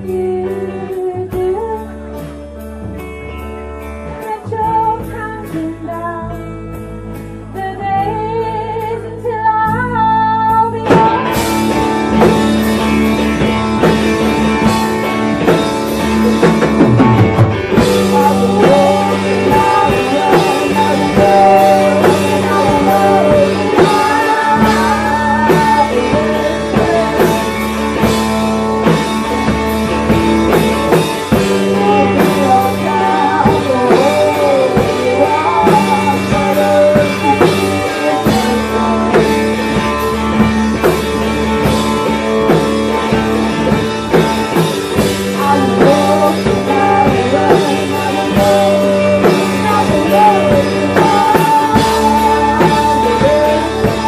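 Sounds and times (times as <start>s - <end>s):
person singing: 0.0s - 3.1s, 4.0s - 6.6s, 7.4s - 54.0s
live rock band playing: 0.0s - 54.0s.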